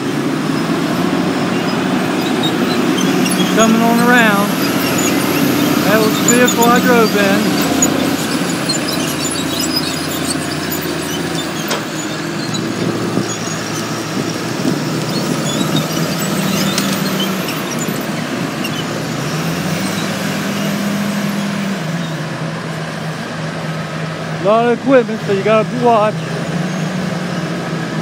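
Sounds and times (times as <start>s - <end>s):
wheel loader diesel engine under load: 0.0s - 28.0s.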